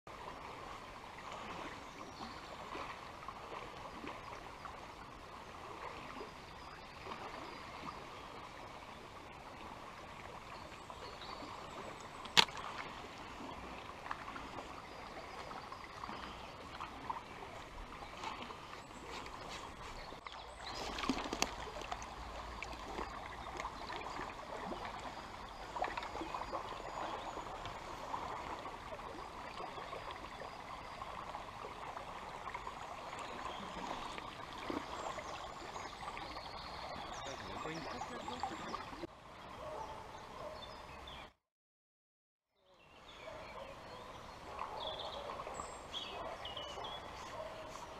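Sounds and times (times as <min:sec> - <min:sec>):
stream running over its bed: 0:00.1 - 0:41.2, 0:42.8 - 0:47.9.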